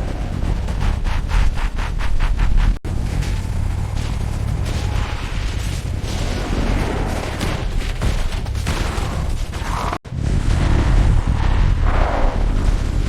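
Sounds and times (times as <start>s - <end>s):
heavy rumble: 0.0s - 13.0s
rapid crackling hits: 0.0s - 13.0s.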